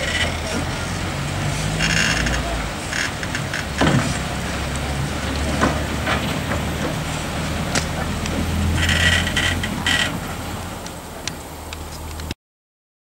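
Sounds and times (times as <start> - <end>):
steam locomotive rumbling: 0.0 - 12.3.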